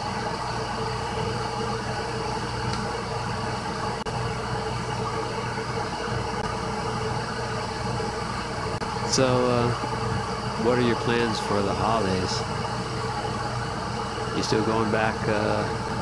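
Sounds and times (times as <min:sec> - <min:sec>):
kettle heating water hiss: 0:00.0 - 0:16.0.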